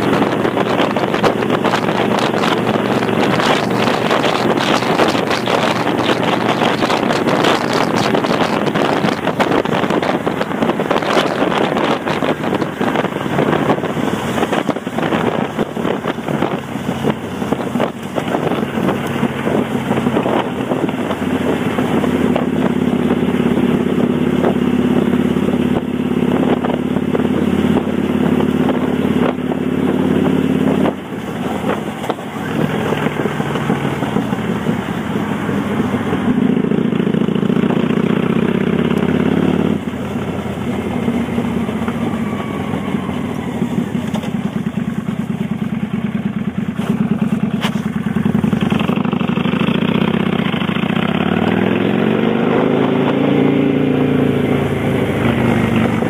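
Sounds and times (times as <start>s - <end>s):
motorcycle exhaust running: 0.0s - 56.0s
wind buffeting microphone: 0.0s - 56.0s.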